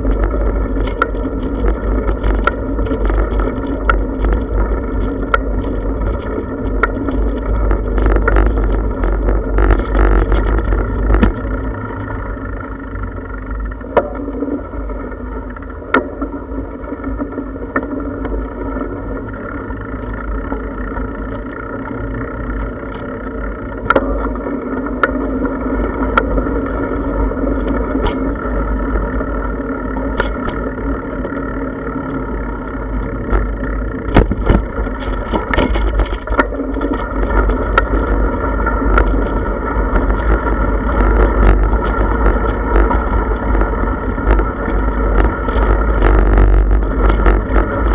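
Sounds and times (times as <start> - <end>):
bicycle knocking over bumps: 0.0 - 21.7, 22.5 - 47.9
bicycle tyres rumbling: 0.0 - 47.9.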